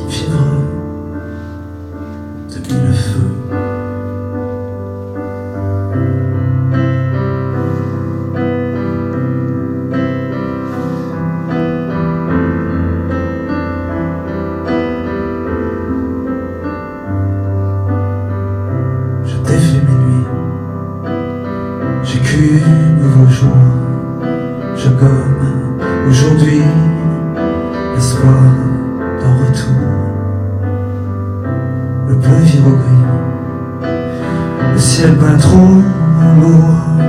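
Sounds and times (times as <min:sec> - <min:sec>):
piano chords and bass: 0:00.0 - 0:37.0.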